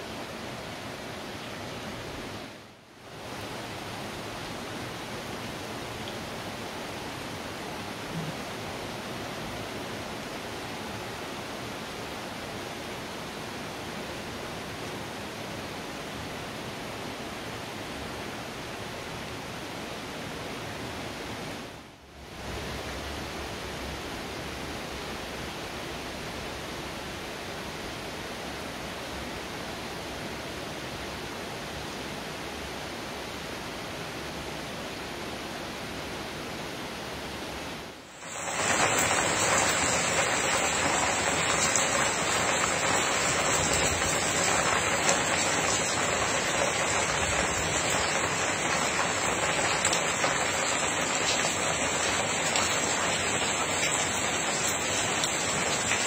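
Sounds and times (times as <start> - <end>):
rain on patio and fencing: 0.0 - 56.0.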